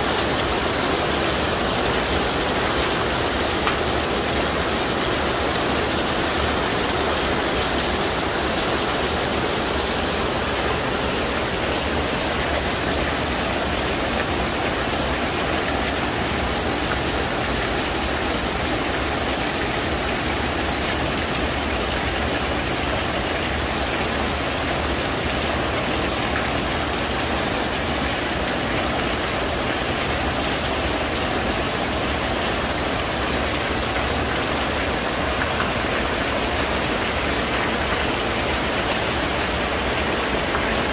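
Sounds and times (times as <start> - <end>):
heavy rain on pavement: 0.0 - 40.9
water pouring off roof: 0.0 - 40.9.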